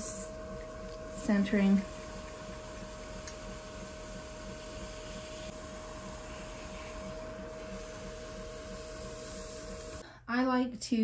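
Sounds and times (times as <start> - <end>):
potter's wheel motor whine: 0.0 - 10.0.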